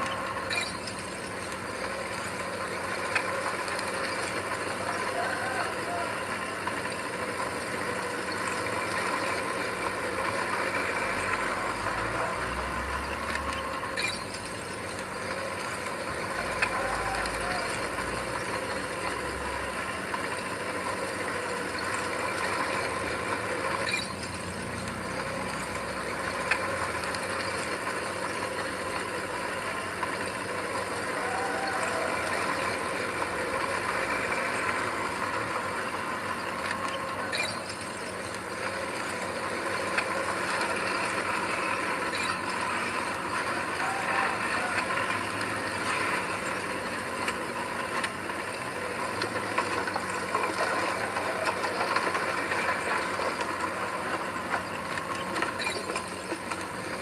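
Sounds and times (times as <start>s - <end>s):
heavy machinery running: 0.0s - 57.0s.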